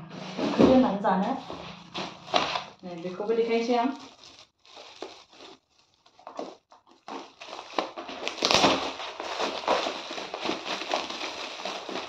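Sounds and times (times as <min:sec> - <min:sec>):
foil gift wrap crinkling: 0:01.2 - 0:12.0.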